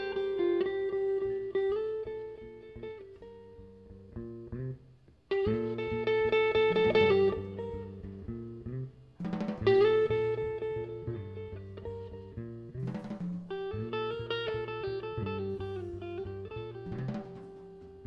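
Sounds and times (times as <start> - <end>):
guitar chords ringing: 0.0 - 18.0
guitar single notes: 0.0 - 18.0.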